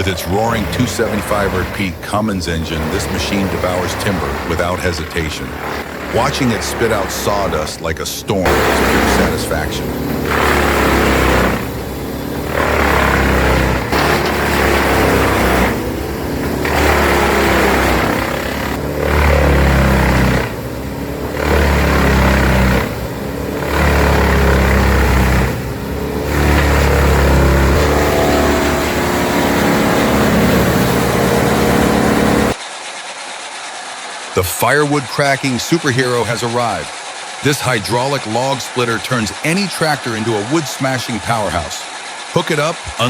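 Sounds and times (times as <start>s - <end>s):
diesel engine hum: 0.0s - 43.0s
wood chipper chipping: 0.0s - 43.0s.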